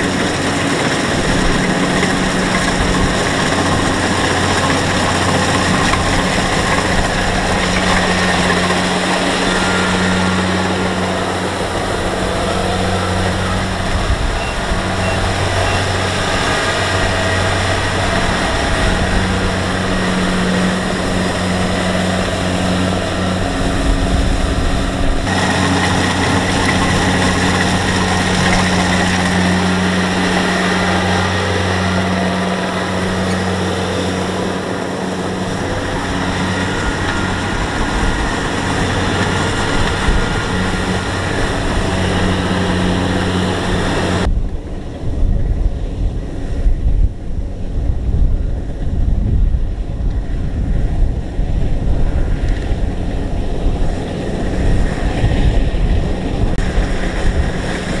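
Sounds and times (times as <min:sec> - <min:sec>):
diesel engine hum: 0:00.0 - 0:58.0.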